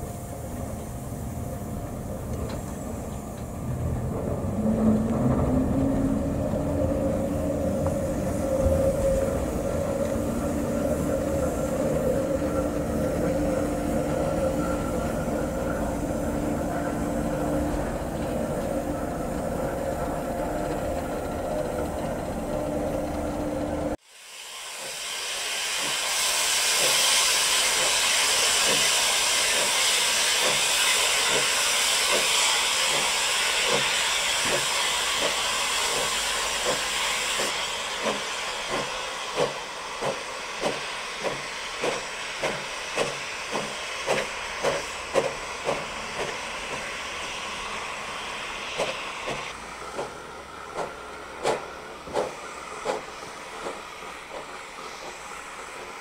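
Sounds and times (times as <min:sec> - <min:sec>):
steam locomotive exhaust chuffs: 0:00.0 - 0:56.0
hiss of escaping steam: 0:04.6 - 0:19.7, 0:23.9 - 0:56.0.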